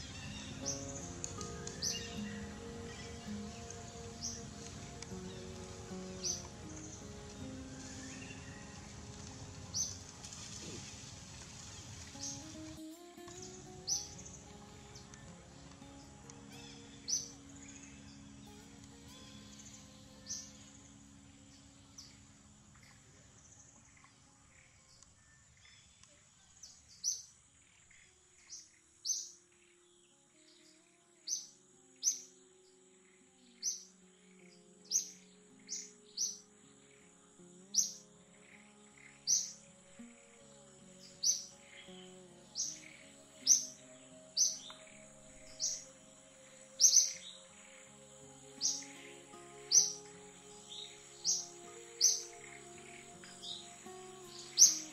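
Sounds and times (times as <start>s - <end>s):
soft background music: 0.0s - 25.9s, 27.0s - 54.9s
bird chirping: 0.0s - 54.9s.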